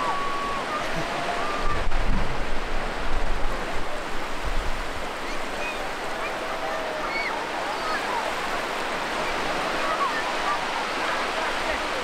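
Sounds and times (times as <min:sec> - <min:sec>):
small waves washing through surf: 0:00.0 - 0:12.0.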